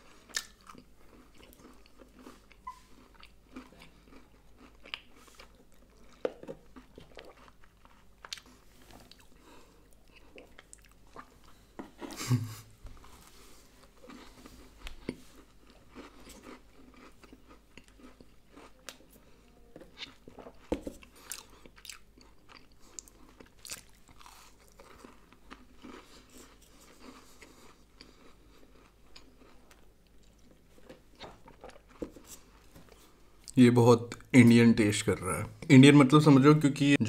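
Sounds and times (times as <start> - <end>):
cookie chewing and crunching: 0.0 - 12.3, 13.0 - 33.6.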